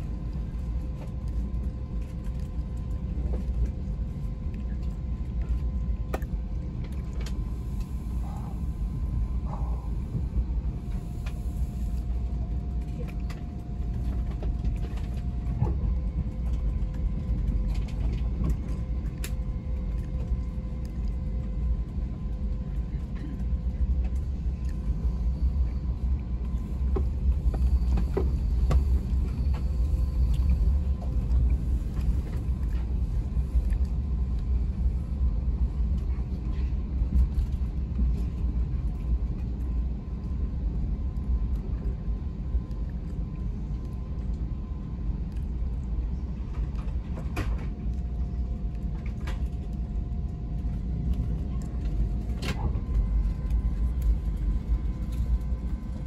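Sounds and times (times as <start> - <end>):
faint whines: 0.0 - 56.0
train low rumble: 0.0 - 56.0.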